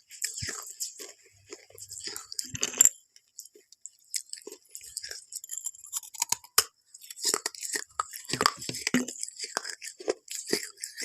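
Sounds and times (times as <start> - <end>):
chewing crackles and clicks: 0.0 - 11.0
loud crunch of biting food: 0.2 - 2.9, 4.1 - 11.0.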